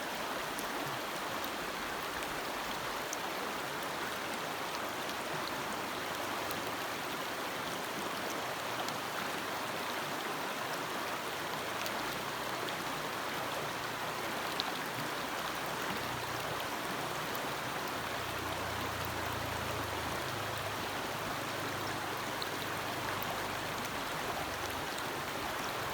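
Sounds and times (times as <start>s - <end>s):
stream flowing: 0.0s - 25.9s.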